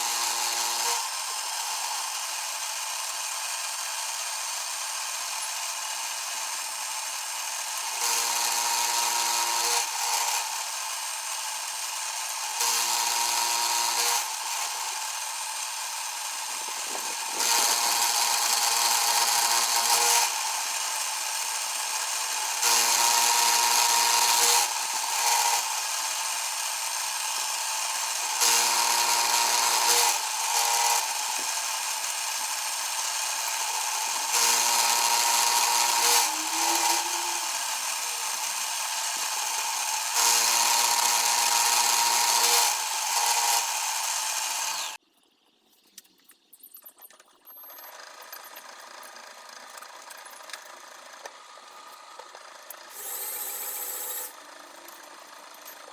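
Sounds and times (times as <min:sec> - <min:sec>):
small machine tool motor running: 0:00.0 - 0:55.9.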